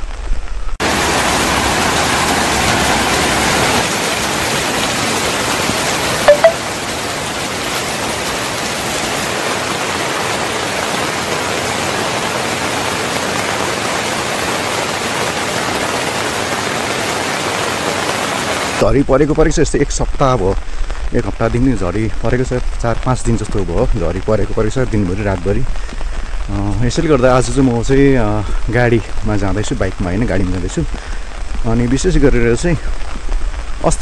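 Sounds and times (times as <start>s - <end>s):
rain falling: 0.0s - 34.0s.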